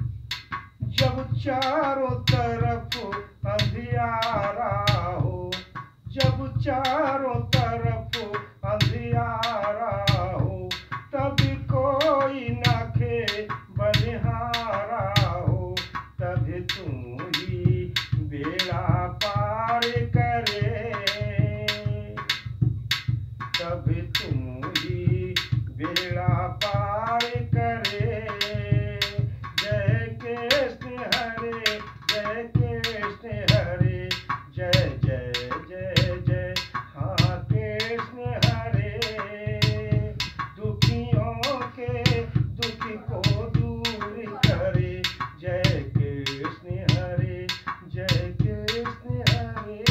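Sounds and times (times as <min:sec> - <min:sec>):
hand percussion on clay vessel: 0:00.0 - 0:49.9
man singing devotional song: 0:00.8 - 0:22.6, 0:23.5 - 0:49.9.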